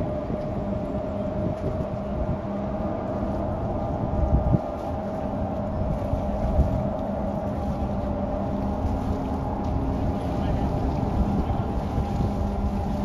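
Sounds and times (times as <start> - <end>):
ship engines droning: 0.0 - 13.0
wind buffeting microphone: 0.0 - 13.0.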